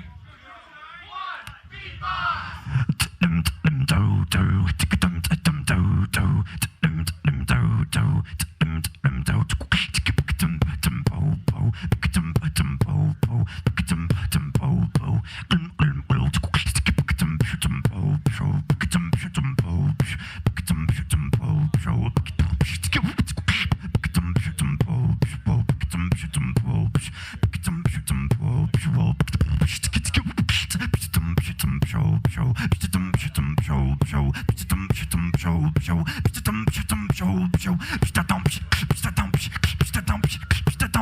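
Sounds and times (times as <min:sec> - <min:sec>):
person beatboxing: 0:02.6 - 0:41.0.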